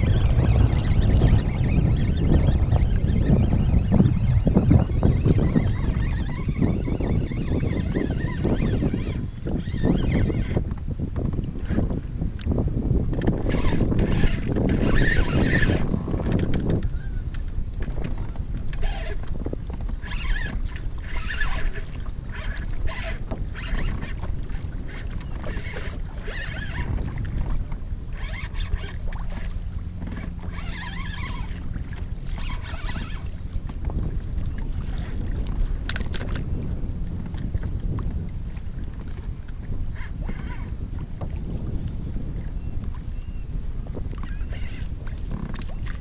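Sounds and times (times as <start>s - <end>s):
water lapping against a kayak: 0.0s - 46.0s
wind buffeting a microphone: 0.0s - 46.0s.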